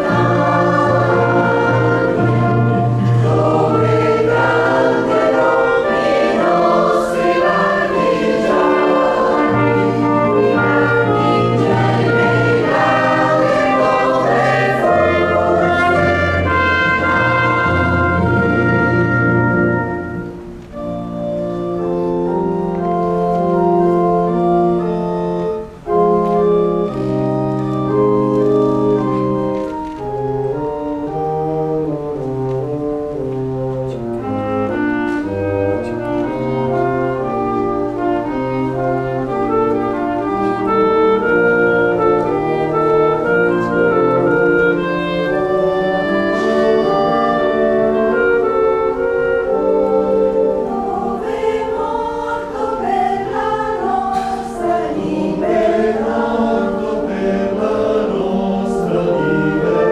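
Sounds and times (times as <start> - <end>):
organ-like keyboard chords: 0.0 - 59.9.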